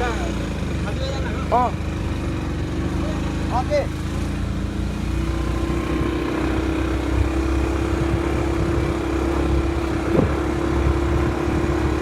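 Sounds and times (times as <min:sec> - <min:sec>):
motorbike engine running: 0:00.0 - 0:12.0
rushing riding noise: 0:00.0 - 0:12.0.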